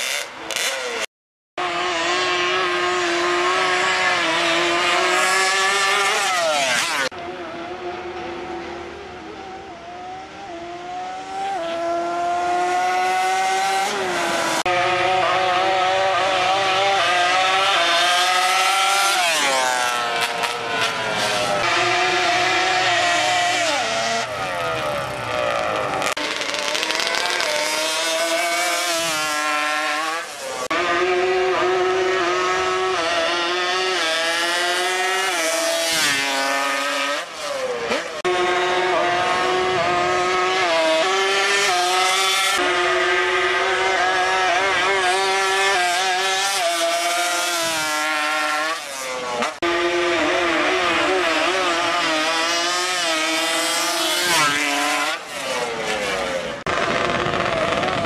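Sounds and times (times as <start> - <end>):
high-revving small engines: 0.0 - 7.2, 8.2 - 58.0.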